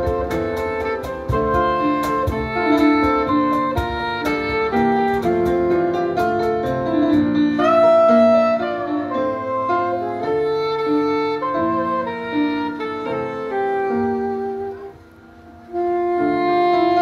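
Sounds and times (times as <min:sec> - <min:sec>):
piano accompaniment: 0:00.0 - 0:17.0
soprano saxophone melody: 0:00.0 - 0:17.0.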